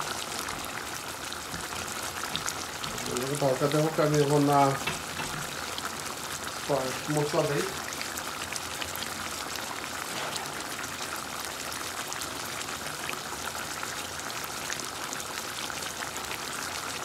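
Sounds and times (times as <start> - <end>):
curry simmering with bubbling pops: 0.0 - 17.0.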